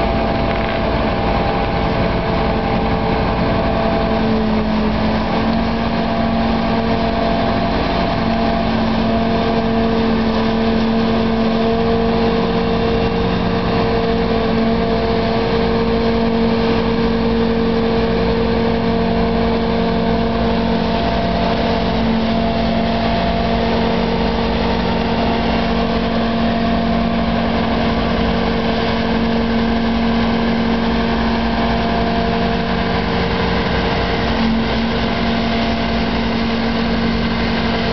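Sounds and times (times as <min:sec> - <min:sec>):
diesel engine running under load: 0:00.0 - 0:37.9.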